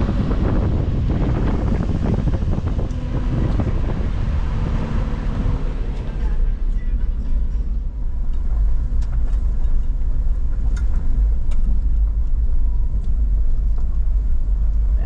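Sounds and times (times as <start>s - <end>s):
engine and tyres rumbling: 0.0s - 15.0s.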